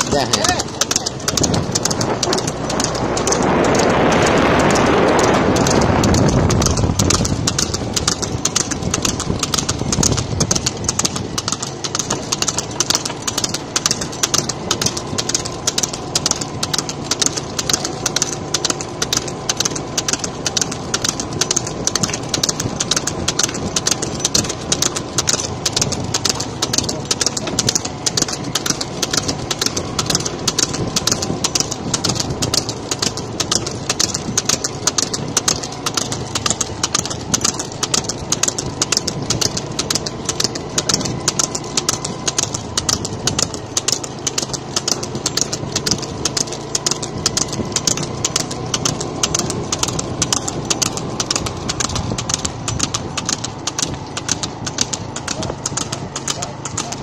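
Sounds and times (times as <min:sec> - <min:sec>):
engine humming: 0:00.0 - 0:57.0
racing cart clattering: 0:00.0 - 0:57.0.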